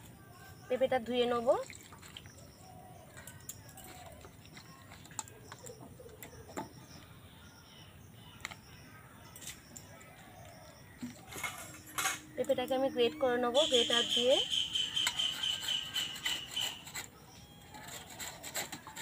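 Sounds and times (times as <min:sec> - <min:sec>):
faint high chirp: 0:02.2 - 0:18.2.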